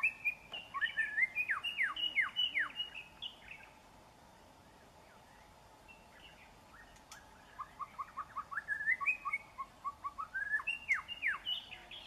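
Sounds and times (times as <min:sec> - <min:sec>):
bird whistling song: 0:00.0 - 0:03.8, 0:05.0 - 0:12.0.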